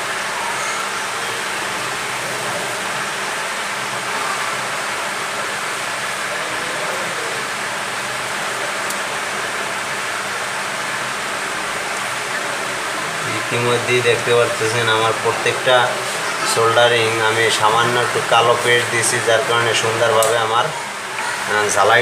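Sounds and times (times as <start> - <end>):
fan rushing hiss: 0.0 - 22.0.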